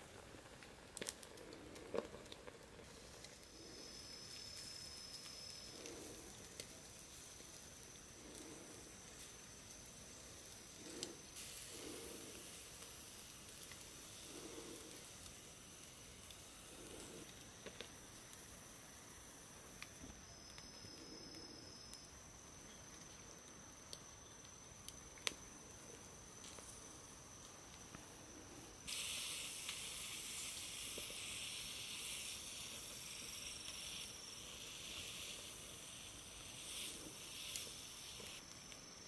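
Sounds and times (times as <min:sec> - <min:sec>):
scallops sizzling on grill: 0:00.0 - 0:39.0.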